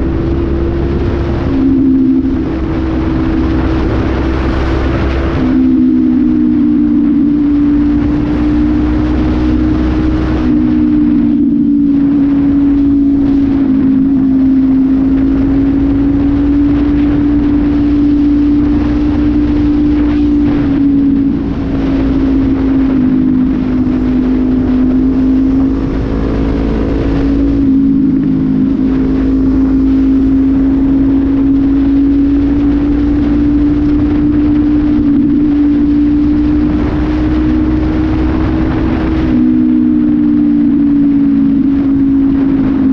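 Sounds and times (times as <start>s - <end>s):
motorcycle engine cruising: 0.0s - 42.9s
wind rumble on microphone: 0.0s - 42.9s.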